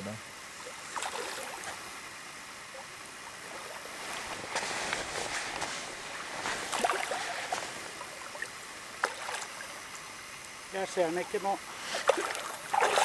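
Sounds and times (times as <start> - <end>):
water splashing at shoreline: 0.4 - 13.0.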